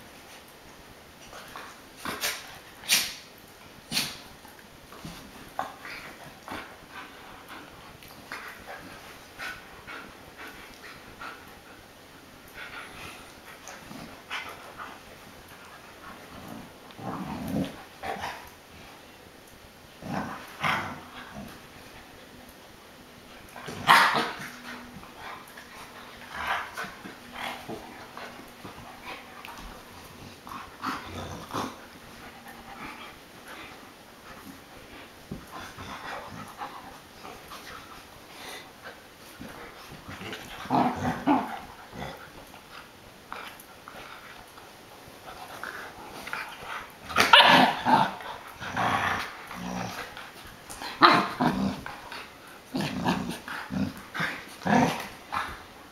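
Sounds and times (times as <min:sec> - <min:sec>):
dogs play growling: 0:00.1 - 0:55.9.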